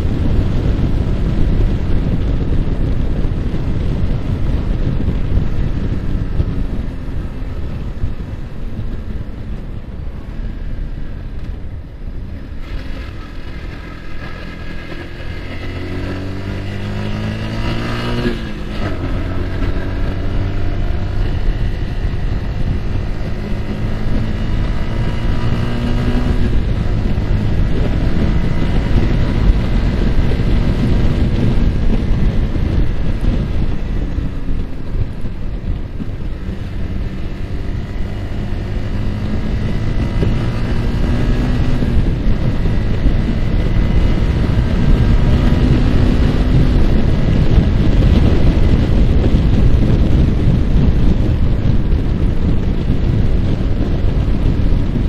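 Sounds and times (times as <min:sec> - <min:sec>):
motorcycle engine accelerating: 0:00.0 - 0:55.0
wind on microphone: 0:00.0 - 0:55.0.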